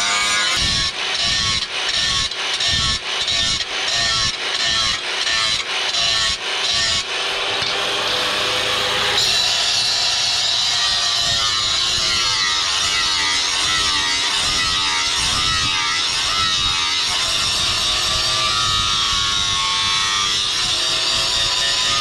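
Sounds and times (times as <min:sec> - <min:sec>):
power tool working steel: 0:00.0 - 0:22.0.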